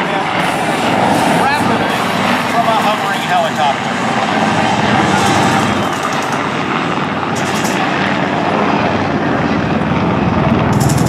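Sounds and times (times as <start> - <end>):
helicopter engine noise: 0.0 - 11.0
helicopter rotor chopping: 0.0 - 11.0.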